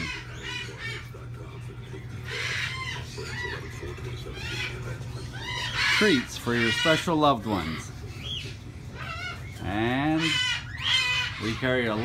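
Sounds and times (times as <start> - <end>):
birds chirping and squawking: 0.0 - 12.0
steady low hum: 0.0 - 12.0.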